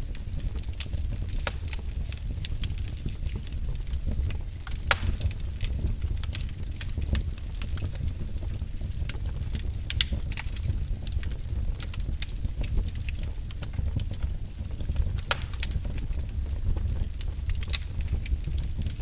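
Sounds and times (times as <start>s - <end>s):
wood fire burning: 0.0s - 19.0s.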